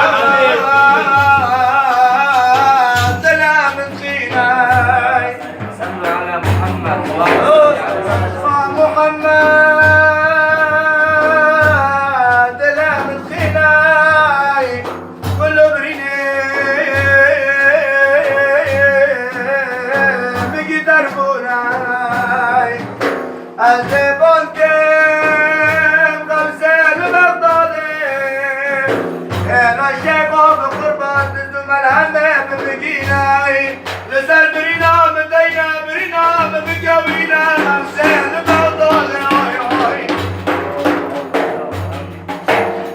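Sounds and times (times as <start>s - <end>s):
low drum beating: 0.0s - 42.9s
man singing a praise song: 0.0s - 42.9s.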